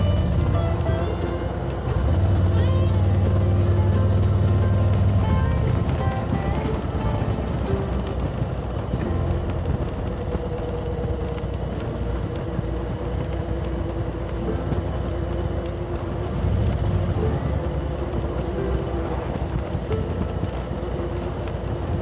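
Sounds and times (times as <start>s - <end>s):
motorcycle engine running: 0.0s - 22.0s
road noise: 0.0s - 22.0s
wind noise: 0.0s - 22.0s.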